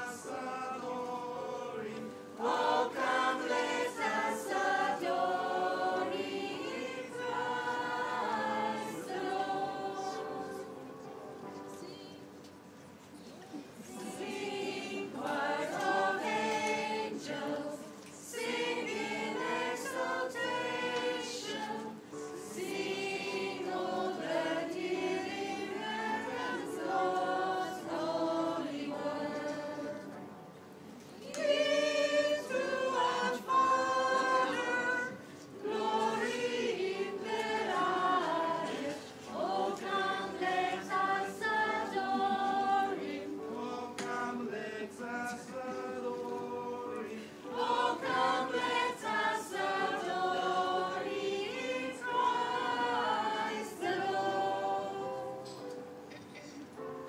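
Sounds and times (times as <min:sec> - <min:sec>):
group singing a carol: 0:00.0 - 0:12.5, 0:13.4 - 0:57.0.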